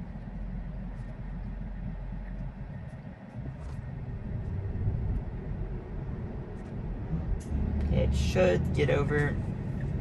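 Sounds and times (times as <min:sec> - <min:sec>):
road and tyre rumble in car: 0:00.0 - 0:10.0.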